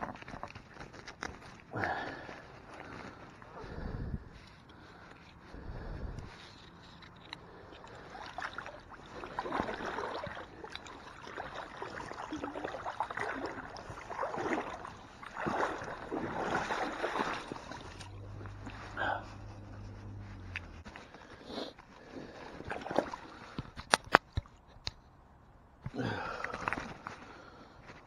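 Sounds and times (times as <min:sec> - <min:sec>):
water splashing and sloshing: 0:00.0 - 0:25.0, 0:25.9 - 0:28.0.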